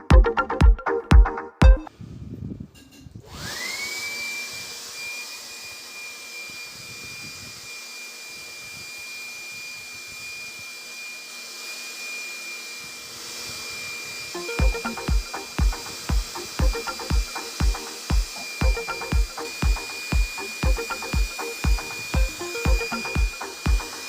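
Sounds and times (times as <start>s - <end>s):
electric air blower whining: 3.2s - 24.0s.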